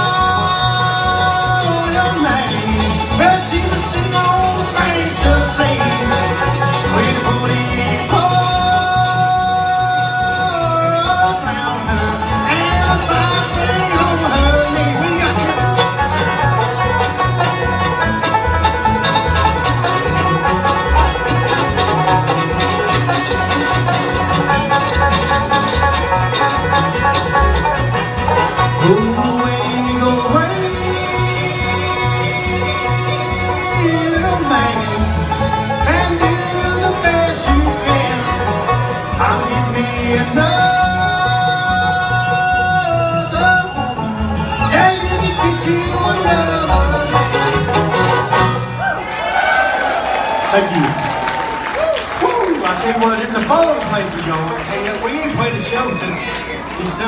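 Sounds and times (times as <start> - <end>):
acoustic guitar: 0.0 - 49.2
upright bass: 0.0 - 49.6
banjo: 0.0 - 50.1
fiddle: 0.0 - 57.0.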